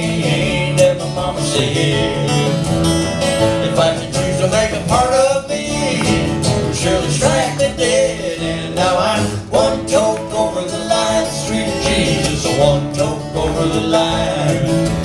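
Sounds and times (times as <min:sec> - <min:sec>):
acoustic guitars strummed: 0:00.0 - 0:15.0
men singing: 0:00.0 - 0:15.0.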